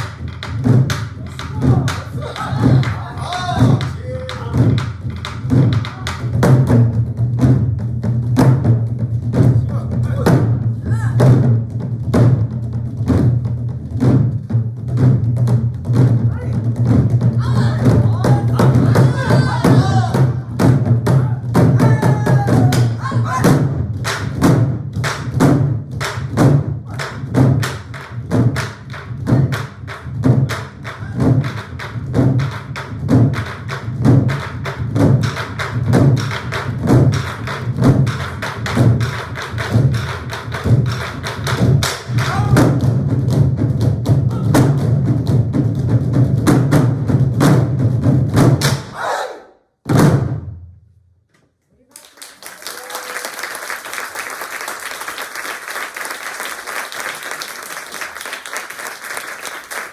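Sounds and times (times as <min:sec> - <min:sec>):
barrel drums beating: 0:00.0 - 0:48.9, 0:49.9 - 0:50.7.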